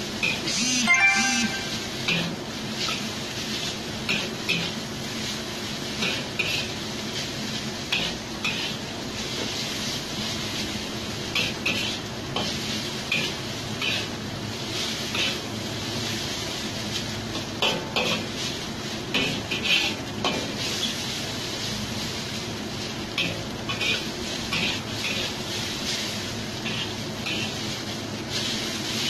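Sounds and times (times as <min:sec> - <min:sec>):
noodles sizzling: 0:00.0 - 0:29.0
metal spatula scraping a wok: 0:01.5 - 0:10.7, 0:11.3 - 0:21.7, 0:23.1 - 0:29.0.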